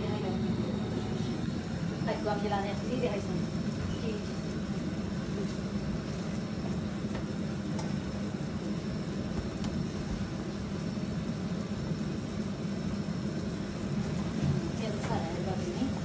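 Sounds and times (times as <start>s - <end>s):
gas stove rushing: 0.0s - 16.0s
sauce simmering in pan: 0.2s - 16.0s.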